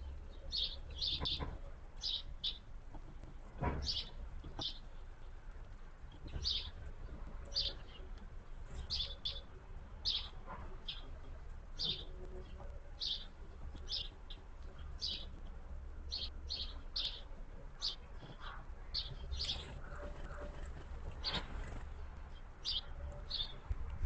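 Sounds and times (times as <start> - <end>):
songbird chirping: 0.0 - 2.8, 3.8 - 23.9.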